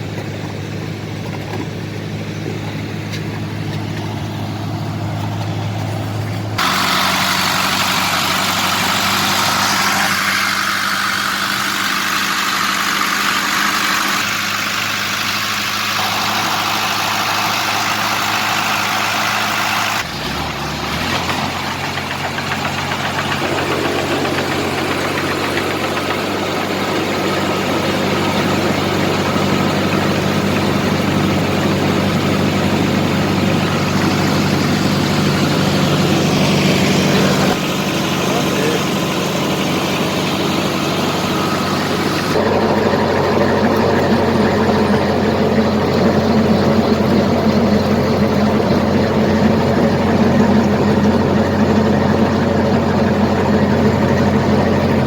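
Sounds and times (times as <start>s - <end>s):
clay-mixing machinery noise: 0.0s - 55.0s
tractor diesel engine running: 0.0s - 55.0s.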